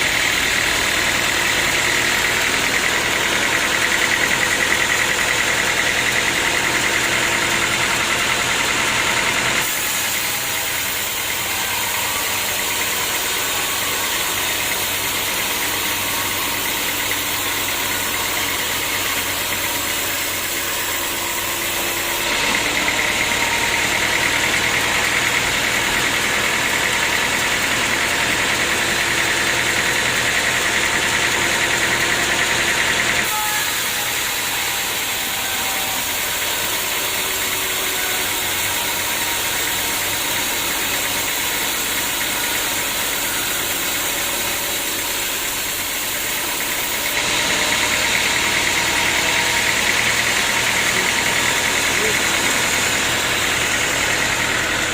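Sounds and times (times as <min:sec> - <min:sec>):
high machine whine: 0:00.0 - 0:54.9
sawmill machinery running: 0:00.0 - 0:54.9.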